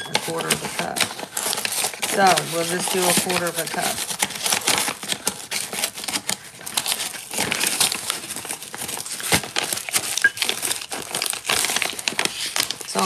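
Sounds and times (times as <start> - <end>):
package crinkling and rustling: 0.0 - 13.0
small clicks and scrapes: 0.0 - 13.0.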